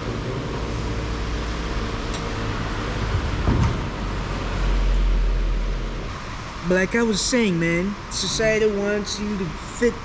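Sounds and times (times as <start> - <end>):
low rumble and hiss: 0.0 - 10.0.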